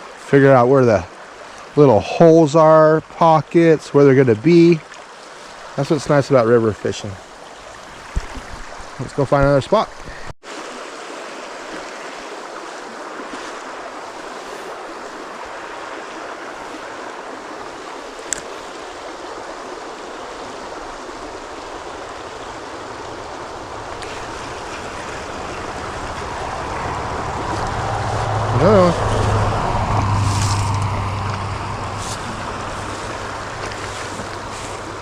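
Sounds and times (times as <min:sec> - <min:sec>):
stream rushing: 0:00.0 - 0:35.0.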